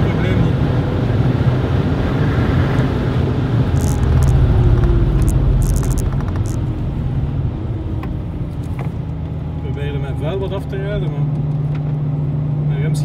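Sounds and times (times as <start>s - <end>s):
car engine accelerating: 0.2s - 12.4s.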